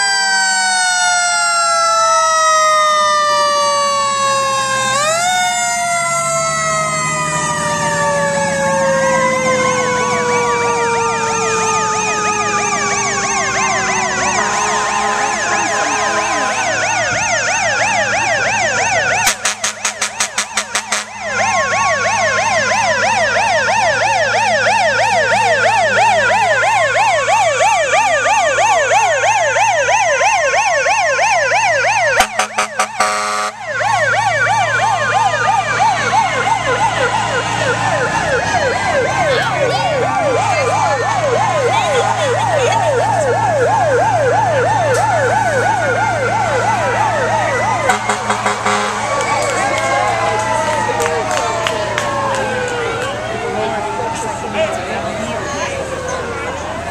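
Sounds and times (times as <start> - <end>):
siren yelp: 0.0 - 56.9
sirens wailing: 0.0 - 56.9
engine hum: 0.1 - 56.9.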